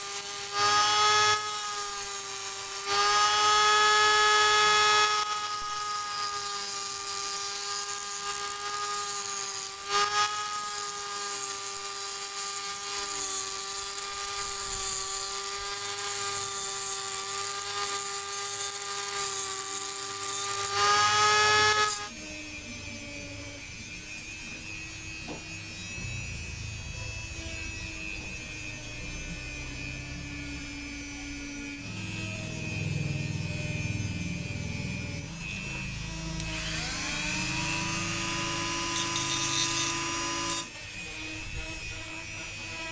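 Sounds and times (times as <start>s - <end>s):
rotary grinder grinding metal: 0.0s - 42.9s.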